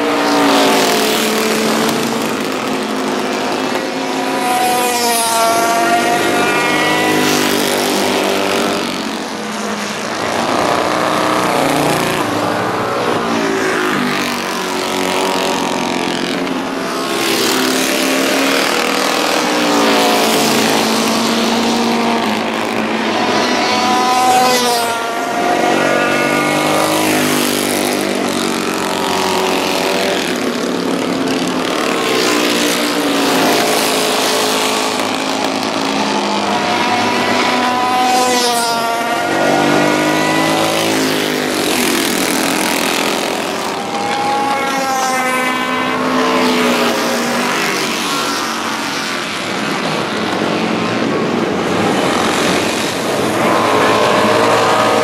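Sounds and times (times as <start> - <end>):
racing motorcycle engines: 0.0 - 55.0.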